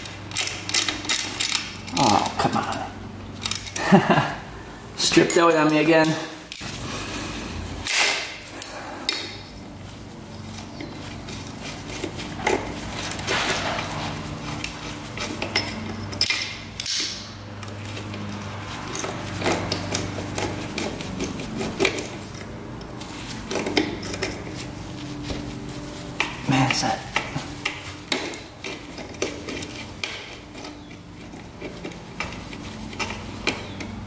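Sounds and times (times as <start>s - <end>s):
hand tools clinking on metal: 0.1s - 4.2s, 5.0s - 6.7s, 10.6s - 34.0s.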